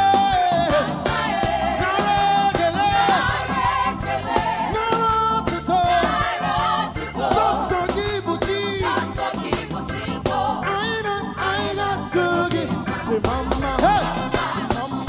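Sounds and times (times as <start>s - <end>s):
band playing beat with bass: 0.0s - 15.0s
voices singing sliding melody: 0.0s - 15.0s.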